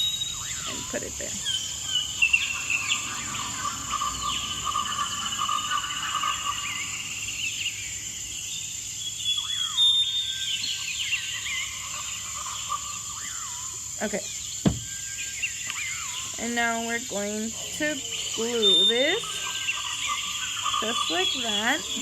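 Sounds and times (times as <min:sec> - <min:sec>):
chirping animal calls: 0:00.0 - 0:08.4, 0:09.0 - 0:22.0
high insect drone: 0:00.0 - 0:22.0.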